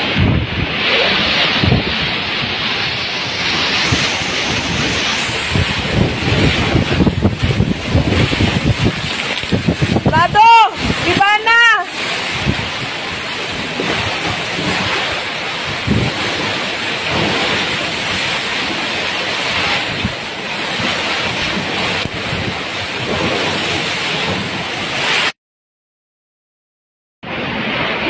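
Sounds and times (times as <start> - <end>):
driving rain: 0.0 - 25.3
wind gusts buffeting microphone: 0.0 - 25.3.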